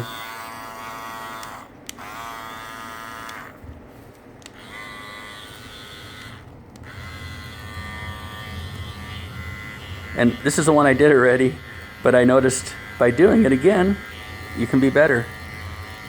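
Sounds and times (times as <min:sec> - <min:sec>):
hair clipper buzzing: 0:00.0 - 0:16.0.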